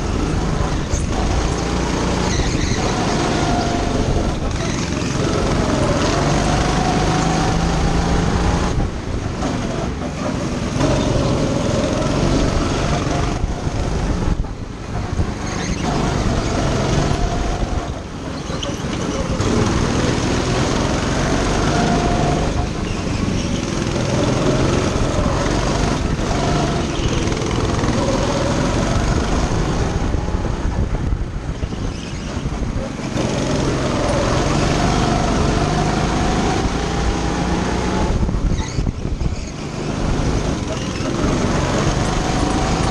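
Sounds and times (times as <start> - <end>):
go-kart engine revving: 0.0 - 42.9.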